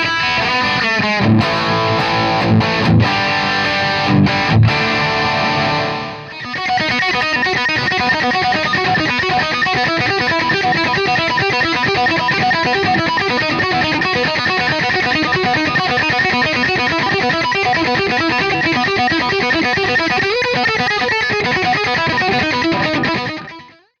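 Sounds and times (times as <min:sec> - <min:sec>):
electric guitar chord ringing: 0:00.0 - 0:23.7
fast picked guitar notes: 0:00.0 - 0:23.7.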